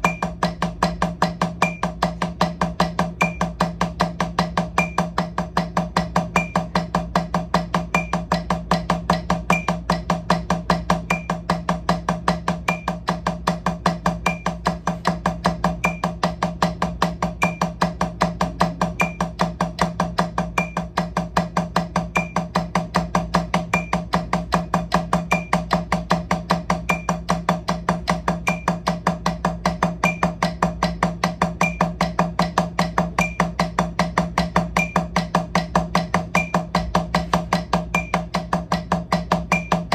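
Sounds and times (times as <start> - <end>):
drumsticks on practice pad: 0.0 - 39.9.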